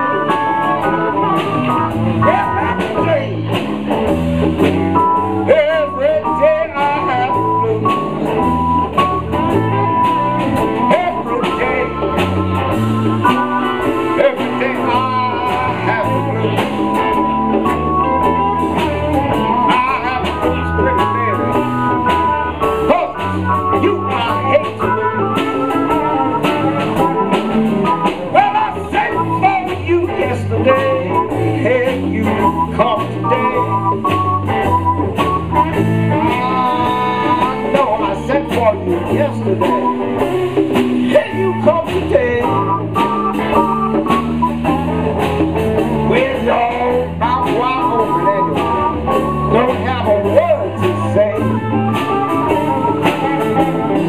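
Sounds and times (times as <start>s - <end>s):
bass line: 0.0s - 54.0s
blues band playing: 0.0s - 54.0s
drums: 0.0s - 54.0s
electric guitar: 0.0s - 54.0s.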